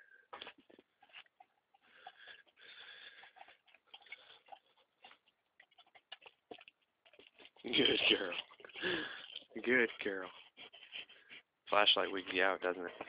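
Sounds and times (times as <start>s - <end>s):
dog lapping from bucket: 0.4s - 13.0s.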